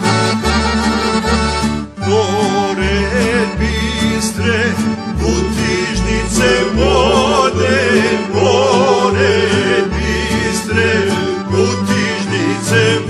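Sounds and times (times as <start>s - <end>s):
bass line: 0.0s - 13.0s
instrumental accompaniment: 0.0s - 13.0s
group singing with vibrato: 2.0s - 13.0s.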